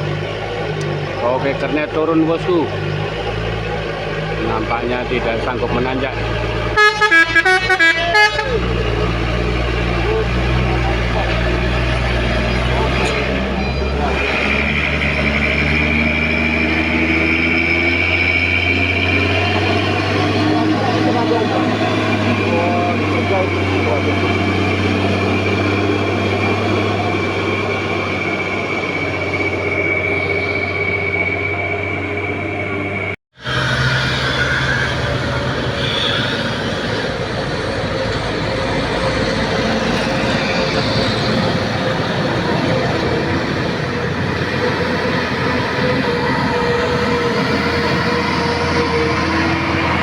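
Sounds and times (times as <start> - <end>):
truck diesel engine labouring uphill: 0.0 - 50.0
steady high whine: 8.8 - 50.0.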